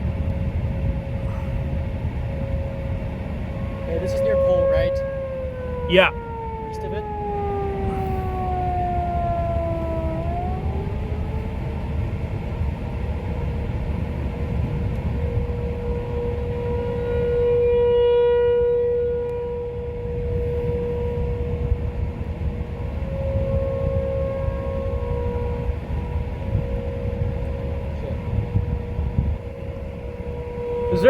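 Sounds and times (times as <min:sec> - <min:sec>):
constant low rumble: 0:00.0 - 0:31.0
warning siren wailing: 0:00.0 - 0:31.0.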